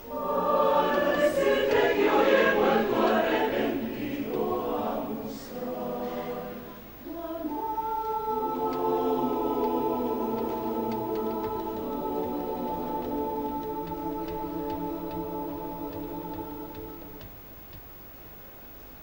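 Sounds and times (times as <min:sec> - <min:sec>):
mixed choir singing in harmony: 0:00.0 - 0:17.4.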